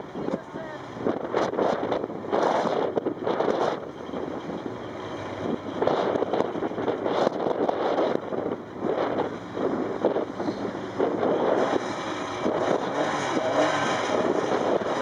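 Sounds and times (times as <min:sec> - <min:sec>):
rally car engine running: 0:00.0 - 0:15.0
wind buffeting microphone: 0:00.0 - 0:15.0.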